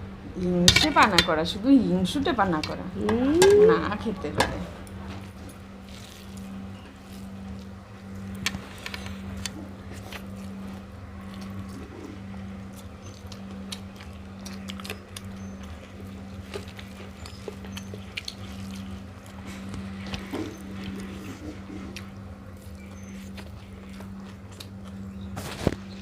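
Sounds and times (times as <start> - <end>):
steady low hum: 0.0 - 26.0
eating sounds: 4.8 - 26.0.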